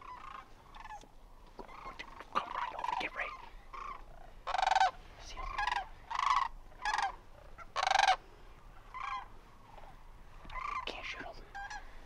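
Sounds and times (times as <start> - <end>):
cranes calling: 0.0 - 12.0.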